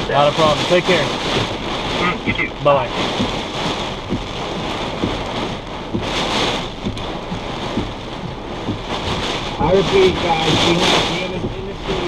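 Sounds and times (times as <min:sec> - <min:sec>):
gusting wind: 0:00.0 - 0:12.0
heavy rain beating on a vehicle: 0:00.0 - 0:12.0.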